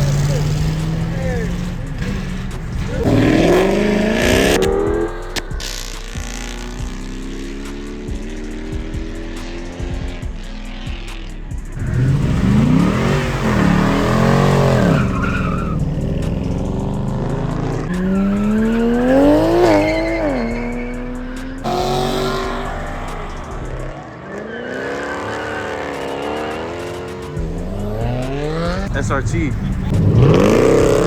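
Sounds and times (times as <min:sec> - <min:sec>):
muscle car engines revving: 0:00.0 - 0:31.0
tire squeal: 0:00.0 - 0:31.0.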